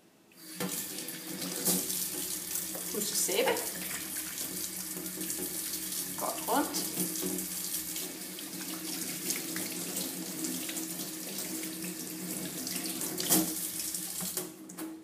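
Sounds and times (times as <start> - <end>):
tap water running into sink: 0.4 - 15.0.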